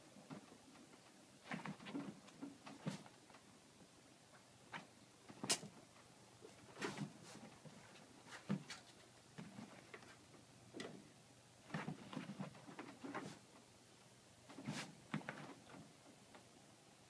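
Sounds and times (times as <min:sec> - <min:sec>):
cats pawing fabric: 0:00.2 - 0:03.4, 0:04.7 - 0:11.0, 0:11.6 - 0:13.7, 0:14.4 - 0:16.5.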